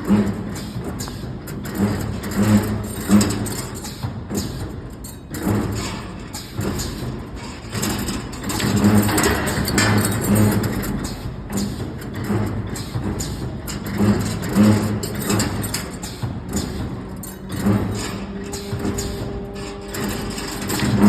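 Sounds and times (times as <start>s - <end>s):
bending machine motor hum: 0.0s - 21.0s
steel bar knocking and clatter: 0.0s - 21.0s.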